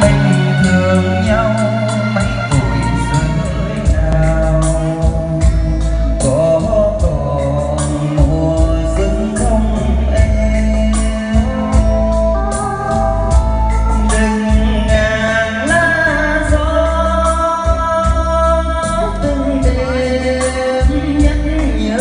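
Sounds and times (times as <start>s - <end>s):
karaoke backing music: 0.0s - 22.0s
man singing into a microphone: 0.0s - 22.0s.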